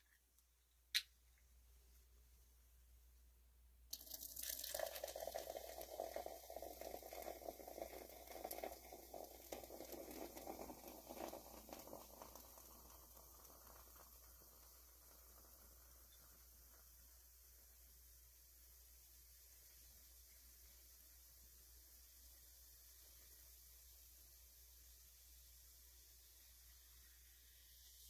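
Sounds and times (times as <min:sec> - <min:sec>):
fizzing carbonation: 0:03.9 - 0:28.0
soda pouring into glass: 0:03.9 - 0:28.0.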